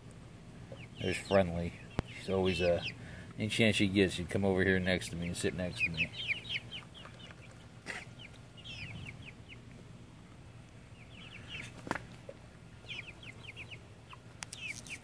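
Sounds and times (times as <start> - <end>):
chicks peeping: 0.5 - 15.0.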